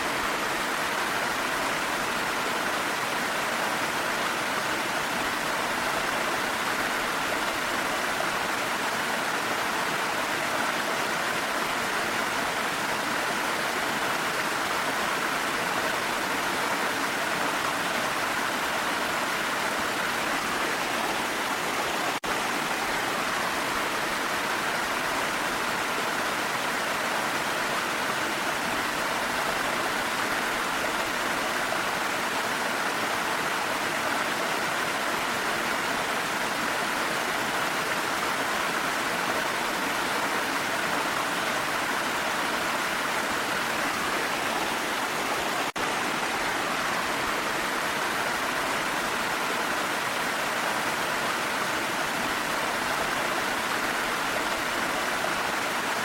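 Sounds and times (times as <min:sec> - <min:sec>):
waterfall roar: 0:00.0 - 0:56.0.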